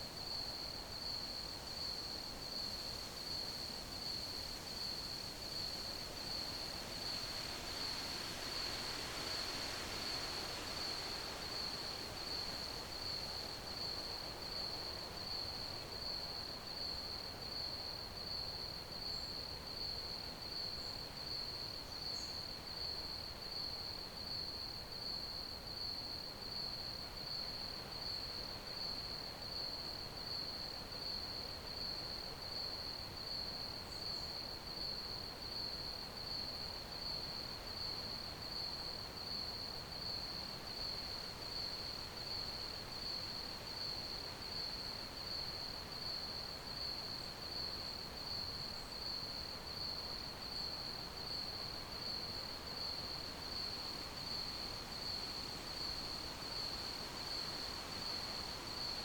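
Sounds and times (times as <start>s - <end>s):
crickets chirping: 0.0s - 59.0s
faint background hiss: 0.0s - 59.0s.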